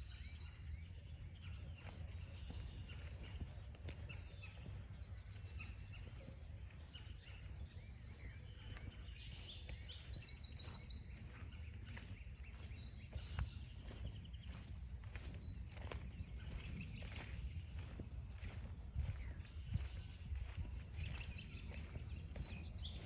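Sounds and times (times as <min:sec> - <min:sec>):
birds singing: 0:00.0 - 0:23.0
footsteps on trail: 0:01.1 - 0:23.0.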